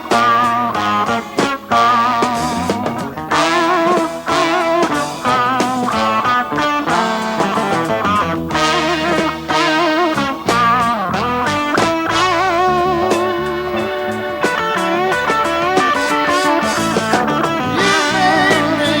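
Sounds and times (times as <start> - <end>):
brass rock band: 0.0 - 19.0
electric guitar solo: 0.0 - 19.0.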